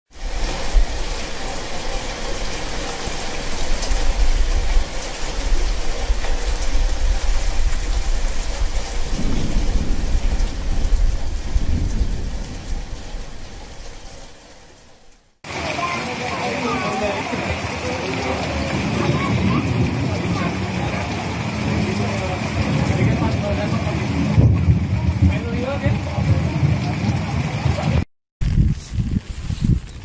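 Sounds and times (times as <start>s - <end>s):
steady rain: 0.1s - 30.0s
thunder rumbling: 0.2s - 15.3s, 18.4s - 29.2s.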